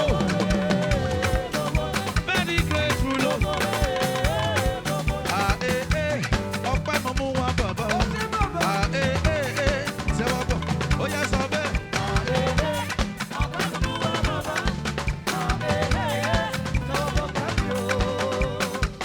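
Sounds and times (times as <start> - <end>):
live gospel band playing: 0.0 - 19.0.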